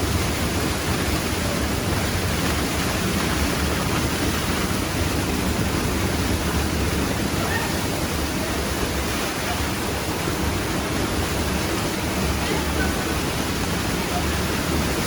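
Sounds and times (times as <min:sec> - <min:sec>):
waterfall crashing: 0:00.0 - 0:15.0.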